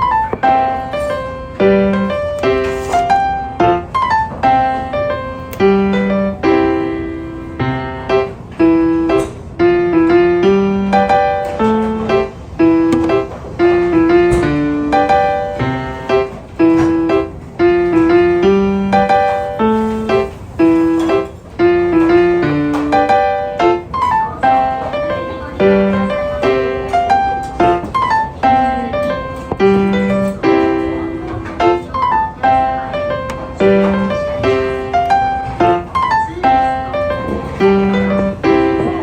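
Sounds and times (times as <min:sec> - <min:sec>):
rhythmic piano melody: 0:00.0 - 0:39.0.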